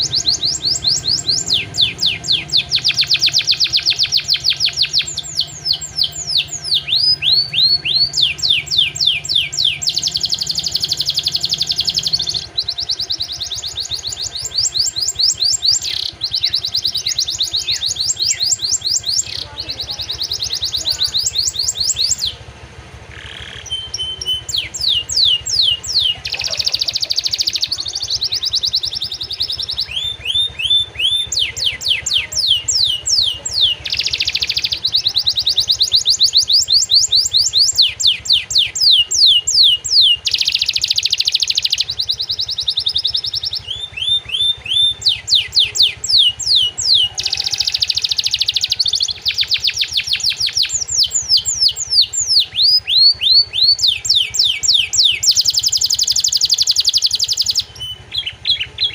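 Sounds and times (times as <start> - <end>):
canary singing: 0.0 - 58.9.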